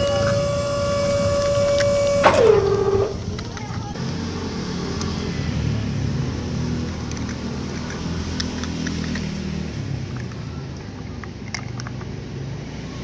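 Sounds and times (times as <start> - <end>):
steady engine drone: 0.0 - 11.9.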